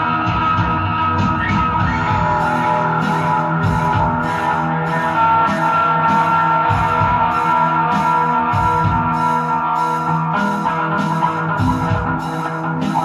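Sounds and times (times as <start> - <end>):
rock electric guitar: 0.0 - 13.0
steady drum beat: 0.0 - 13.0.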